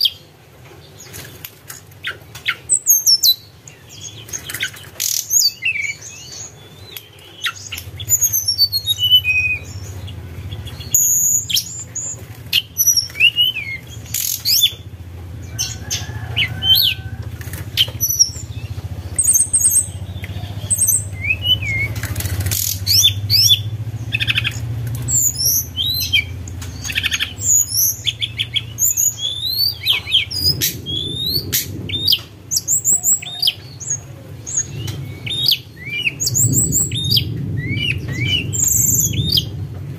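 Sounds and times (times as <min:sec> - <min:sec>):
songbird whistling and chirping: 0:00.0 - 0:00.3, 0:02.0 - 0:14.9, 0:15.5 - 0:39.5
steady low hum: 0:05.9 - 0:39.9.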